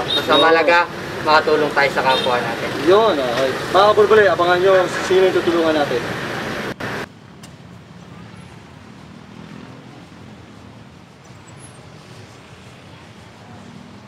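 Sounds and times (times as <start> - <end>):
cars and motorcycles passing: 0.0 - 14.0.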